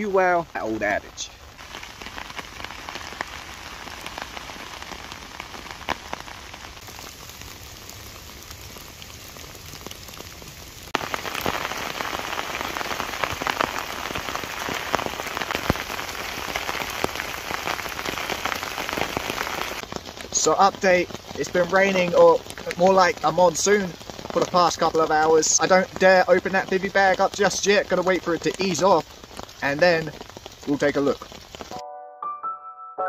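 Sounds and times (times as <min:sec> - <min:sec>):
heavy rain hissing: 0:00.0 - 0:31.8
raindrops ticking: 0:00.0 - 0:31.8.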